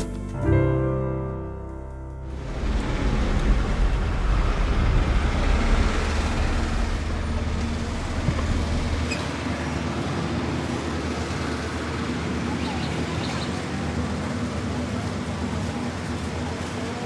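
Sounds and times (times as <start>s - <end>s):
passing traffic rumble and hiss: 2.3s - 17.0s.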